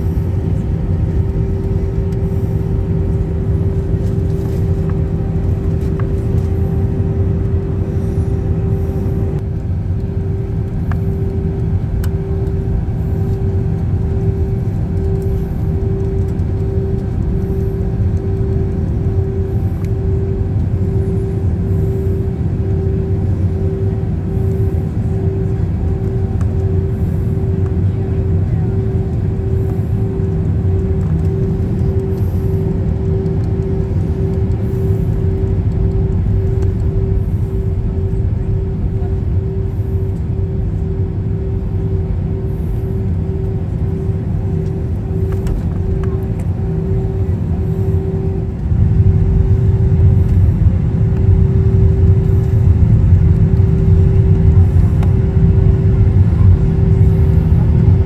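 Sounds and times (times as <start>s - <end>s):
jet engine low rumble: 0.0s - 58.0s
pulsing hum: 0.0s - 58.0s.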